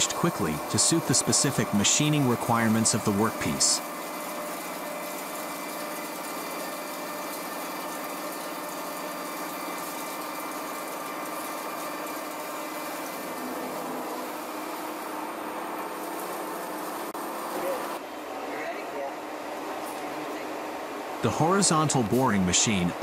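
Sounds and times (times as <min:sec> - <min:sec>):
boring machine humming: 0:00.0 - 0:18.5, 0:19.1 - 0:23.0.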